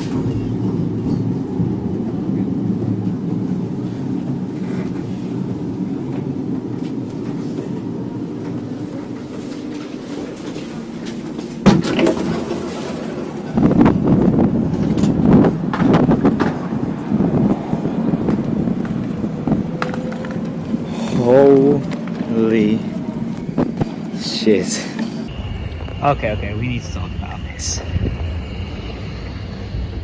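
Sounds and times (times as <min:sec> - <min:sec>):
tram rumbling on rails: 0:00.0 - 0:30.0.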